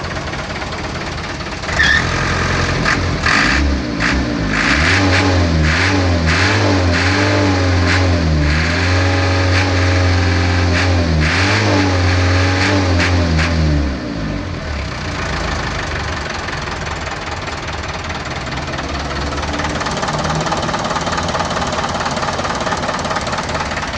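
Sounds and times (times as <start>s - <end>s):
truck engine revving and idling: 0.0s - 23.9s.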